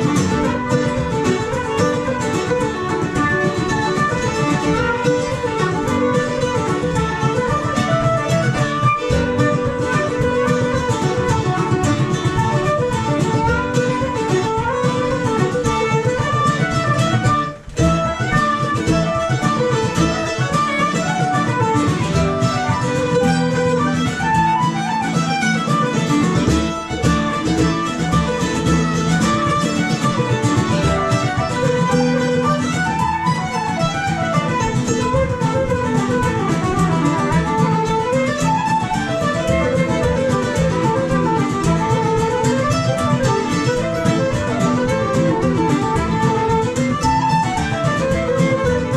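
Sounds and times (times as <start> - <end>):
acoustic string band: 0.0 - 48.9
mandolin melody: 0.0 - 48.9.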